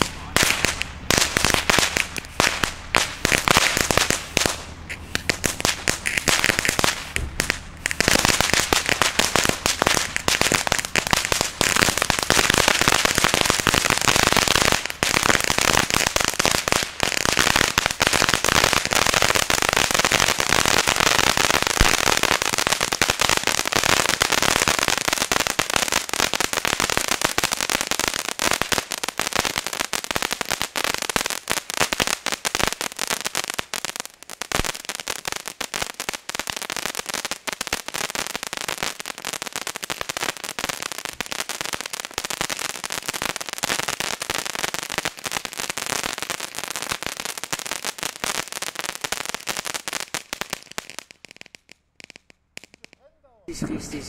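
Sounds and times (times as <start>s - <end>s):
firework crackling and popping: 0.0s - 54.0s.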